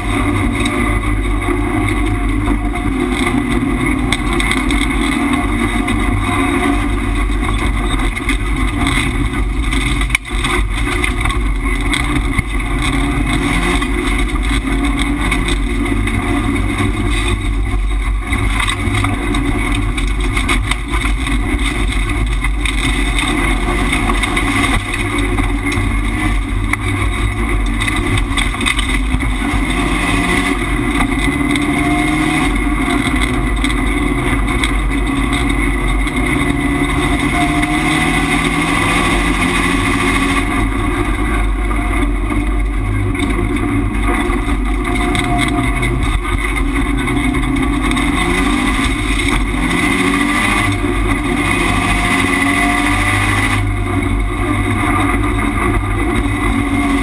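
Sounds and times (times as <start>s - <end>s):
race car engine revving: 0.0s - 57.0s
tyre and road noise: 0.0s - 57.0s.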